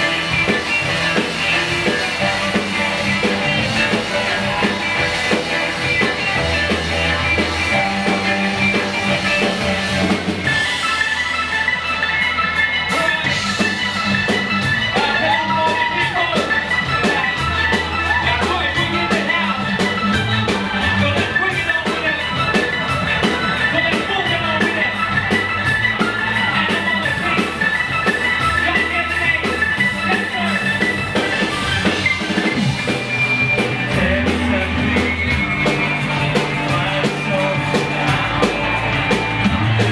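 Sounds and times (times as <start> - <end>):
drum kit beat: 0.0 - 39.9
ringing guitar chords: 0.0 - 39.9.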